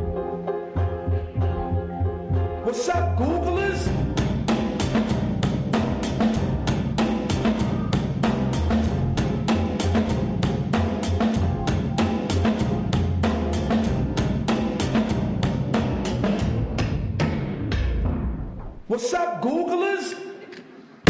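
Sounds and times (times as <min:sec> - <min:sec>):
bass line: 0:00.0 - 0:18.4.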